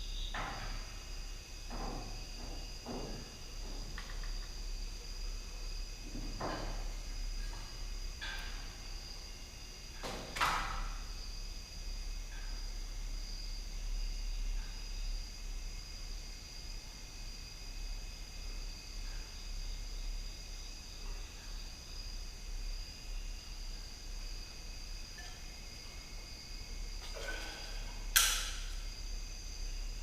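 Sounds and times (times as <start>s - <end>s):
night insects trilling: 0.0s - 30.0s.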